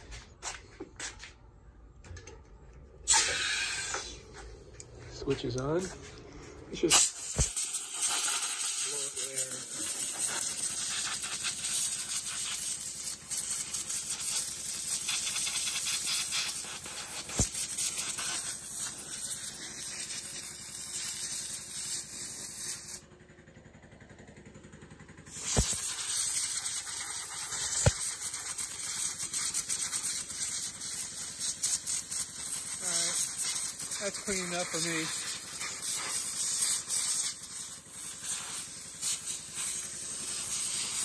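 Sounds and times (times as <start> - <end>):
blast cleaner hissing: 3.1 - 4.3, 6.9 - 23.0, 25.3 - 41.0.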